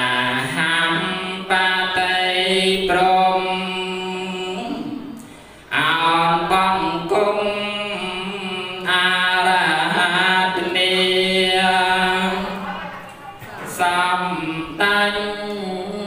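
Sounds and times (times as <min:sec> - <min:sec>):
man chanting into microphone: 0:00.0 - 0:05.1, 0:05.7 - 0:16.0.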